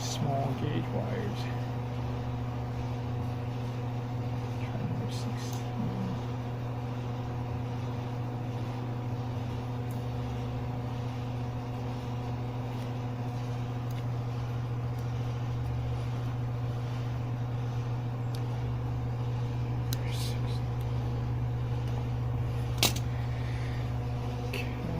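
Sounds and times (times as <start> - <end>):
low machine hum: 0.0 - 24.9.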